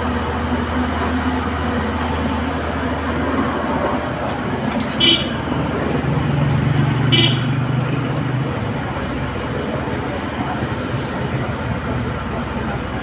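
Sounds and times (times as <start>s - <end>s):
low vehicle engine hum: 0.0s - 13.0s
road traffic noise: 0.0s - 13.0s.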